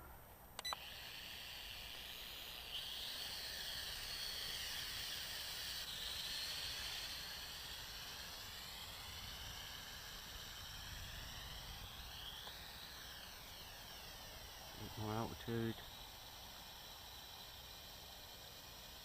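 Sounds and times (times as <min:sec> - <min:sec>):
toy drone motors whining: 0:00.6 - 0:19.0.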